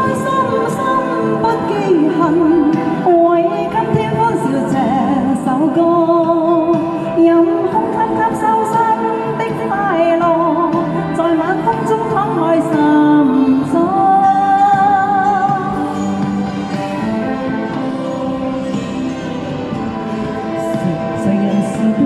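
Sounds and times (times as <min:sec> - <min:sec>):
instrumental backing-track music: 0:00.0 - 0:22.0.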